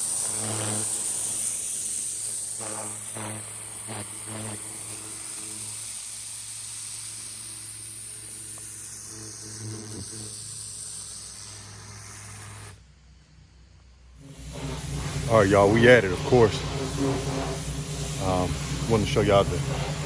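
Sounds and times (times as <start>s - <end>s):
pressure washer spraying: 0.0s - 12.8s, 14.2s - 20.0s.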